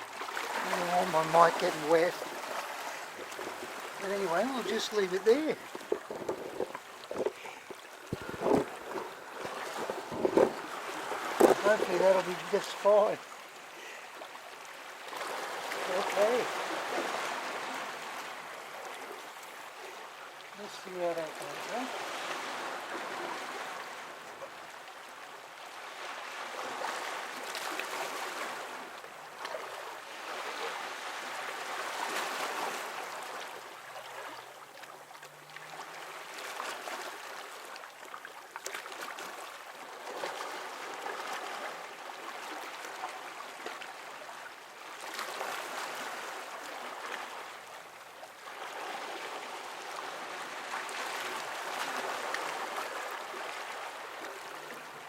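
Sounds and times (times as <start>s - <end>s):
small waves lapping over rocks: 0.0s - 55.0s.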